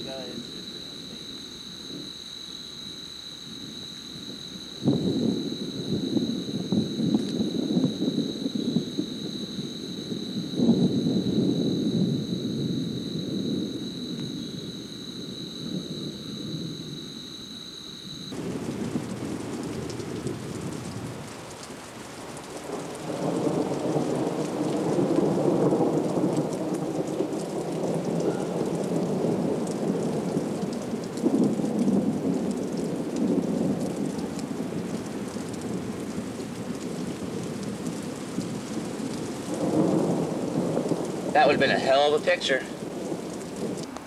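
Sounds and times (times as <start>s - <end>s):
rolling thunder: 0.0s - 21.4s, 22.3s - 44.0s
rain hissing: 0.0s - 44.0s.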